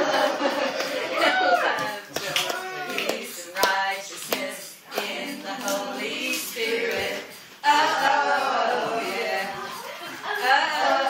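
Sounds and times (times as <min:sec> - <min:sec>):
group singing worship song: 0:00.0 - 0:11.0.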